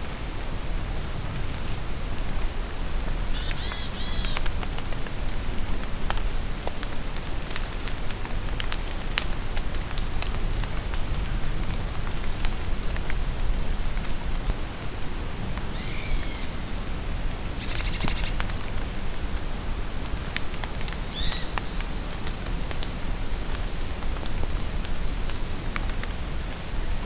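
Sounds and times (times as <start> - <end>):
steady rain in a forest: 0.0 - 27.0.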